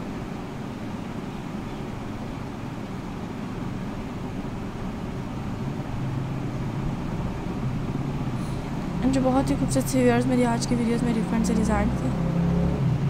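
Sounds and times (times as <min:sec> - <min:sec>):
low background rumble and hiss: 0:00.0 - 0:13.0
low hum: 0:00.0 - 0:13.0.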